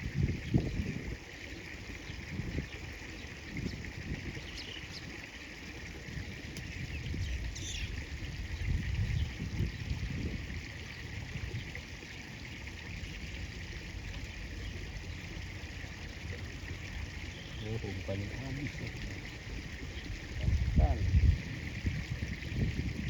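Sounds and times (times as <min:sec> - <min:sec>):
deep water rumble: 0:00.0 - 0:23.0.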